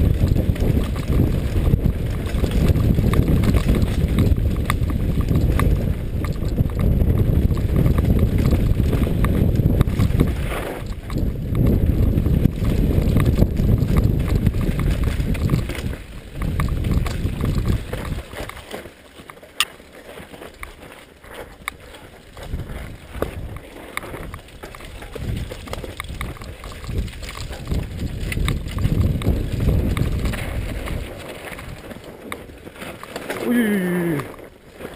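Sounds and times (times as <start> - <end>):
bike rattling over rocks: 0.0 - 34.9
sharp bike clicks: 0.0 - 34.9
wind and ground rumble: 0.0 - 34.9.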